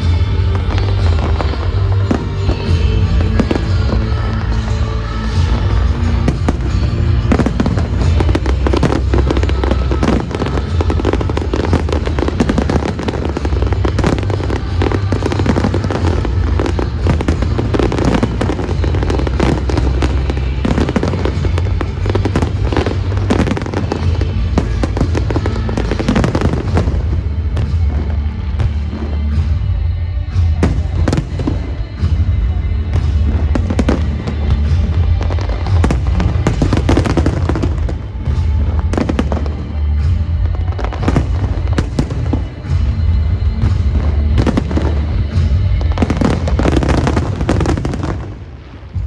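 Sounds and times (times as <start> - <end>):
fireworks bursting and crackling: 0.0 - 49.0
music with deep bass: 0.0 - 49.0.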